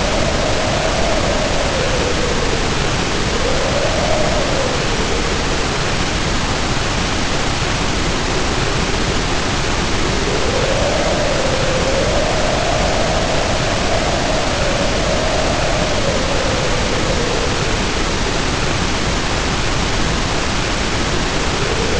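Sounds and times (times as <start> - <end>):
heavy rain pouring: 0.0 - 21.9
wind howling: 0.0 - 21.9.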